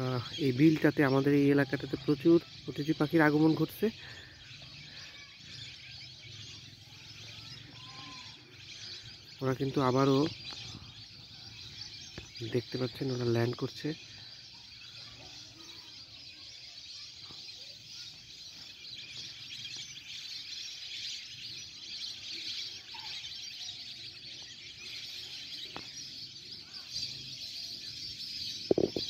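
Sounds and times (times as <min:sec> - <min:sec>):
flock of ducks chirping: 0:00.0 - 0:29.0.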